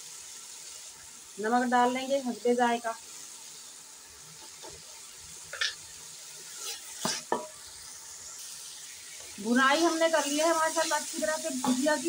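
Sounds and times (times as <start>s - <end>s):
vegetables sizzling in pot: 0.0s - 12.0s.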